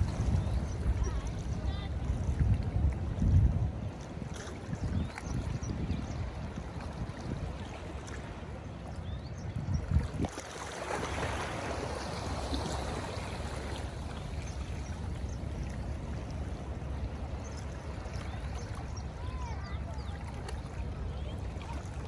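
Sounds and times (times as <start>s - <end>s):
ocean water surging: 0.0s - 9.0s, 10.0s - 22.0s
wind rumble on microphone: 0.0s - 22.0s.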